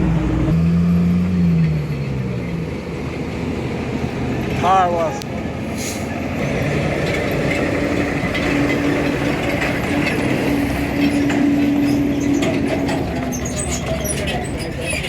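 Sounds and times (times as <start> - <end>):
heavy vehicle droning: 0.0 - 15.0
road traffic rumble: 0.0 - 15.0.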